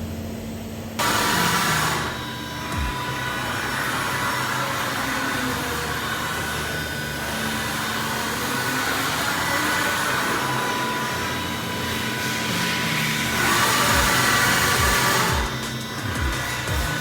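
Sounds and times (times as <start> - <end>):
machine mechanical whir: 0.0 - 17.0.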